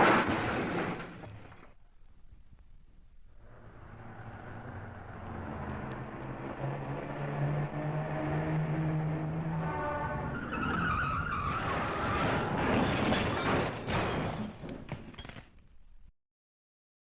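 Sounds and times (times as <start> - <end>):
tyres skidding screech: 0.0 - 1.8, 3.4 - 15.5
vehicle crash: 0.0 - 1.8, 3.4 - 15.8.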